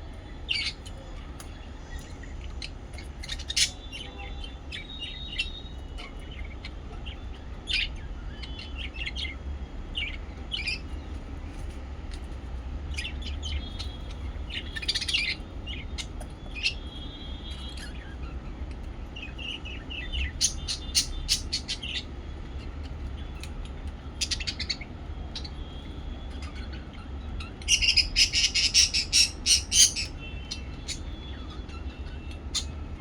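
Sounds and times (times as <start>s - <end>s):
lovebirds chirping: 0.0s - 33.0s.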